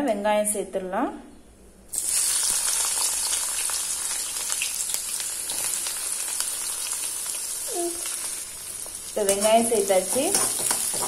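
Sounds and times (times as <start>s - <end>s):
shallots sizzling in hot oil: 1.9s - 11.0s.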